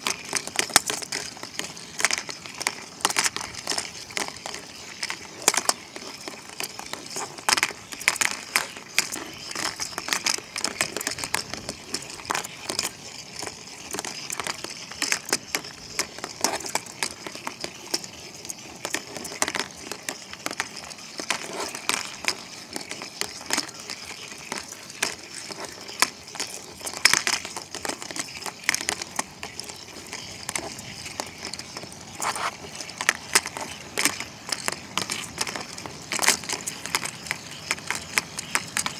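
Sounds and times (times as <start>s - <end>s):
balls clacking against plastic basket: 0.0s - 38.9s
motorised balls rattling whir: 0.0s - 38.9s.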